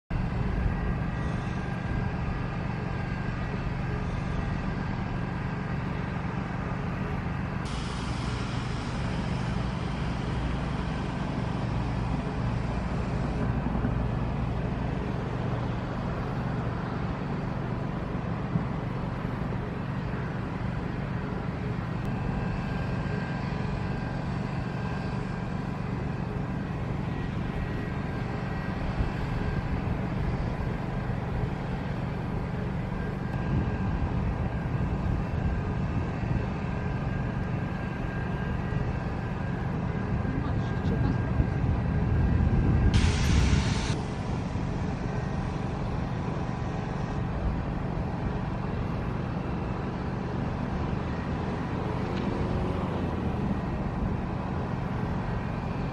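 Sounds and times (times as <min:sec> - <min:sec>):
low engine drone: 0:00.1 - 0:55.9.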